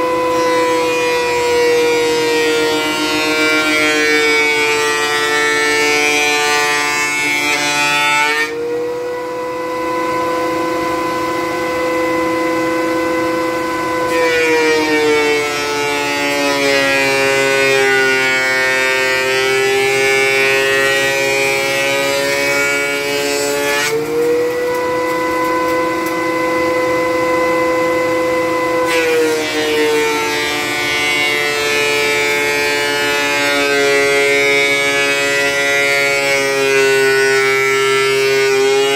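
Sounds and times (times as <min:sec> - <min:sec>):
thickness planer whine: 0:00.0 - 0:38.9.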